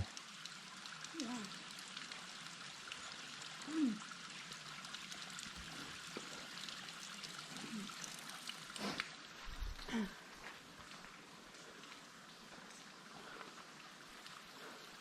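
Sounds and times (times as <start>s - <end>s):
waterfall splashing and trickling: 0.0s - 15.0s.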